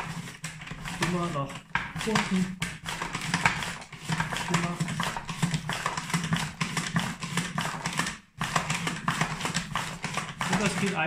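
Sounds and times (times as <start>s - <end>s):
mandoline slicer clacks and knocks: 0.0s - 11.0s.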